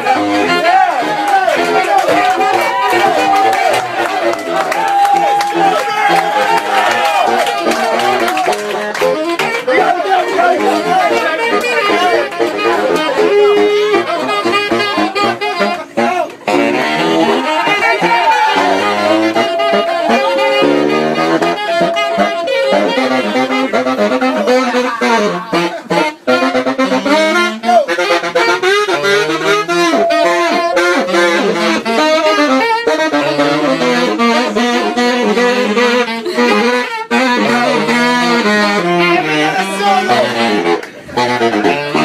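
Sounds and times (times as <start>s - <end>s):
two saxophones playing jazz: 0.0s - 42.0s.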